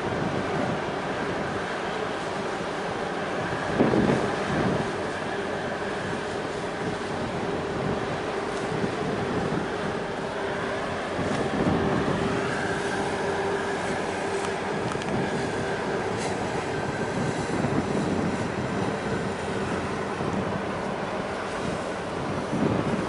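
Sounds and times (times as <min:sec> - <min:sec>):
wind on microphone: 0:00.0 - 0:01.7, 0:02.4 - 0:23.0
rushing water: 0:00.0 - 0:23.0
ship engines droning: 0:00.0 - 0:23.0.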